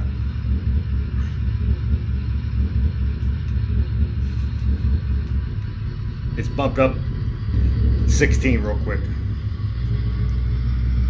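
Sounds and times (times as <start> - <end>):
diesel engine rumble: 0.0 - 11.0.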